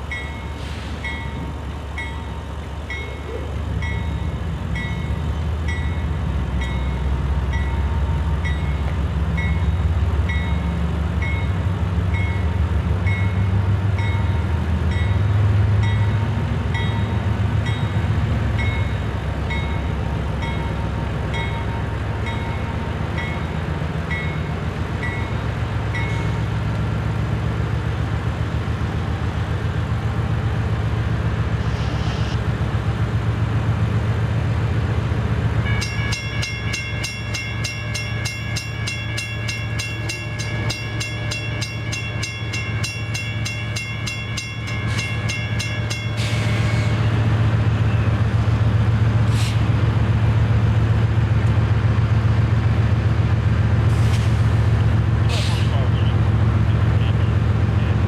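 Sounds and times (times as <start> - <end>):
diesel train rumbling past: 0.0 - 58.0.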